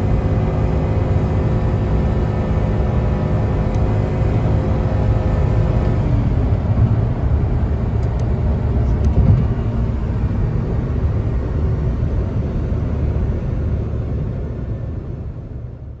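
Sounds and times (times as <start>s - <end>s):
car engine: 0.0s - 16.0s
road and wind noise: 0.0s - 16.0s.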